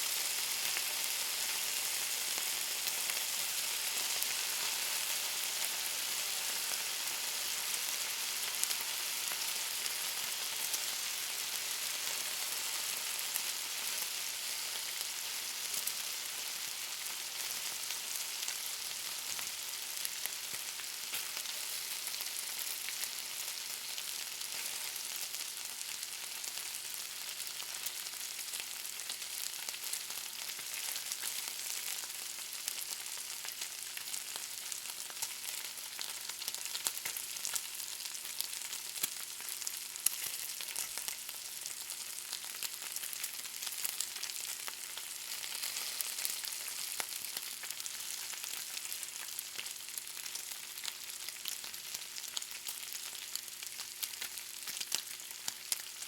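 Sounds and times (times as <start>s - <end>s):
bacon sizzling in a pan: 0.0s - 56.0s.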